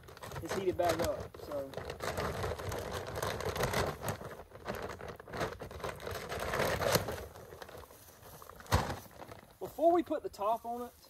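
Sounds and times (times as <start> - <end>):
small clicks and crackles: 0.0 - 9.6
plastic bag rustling: 0.0 - 11.0.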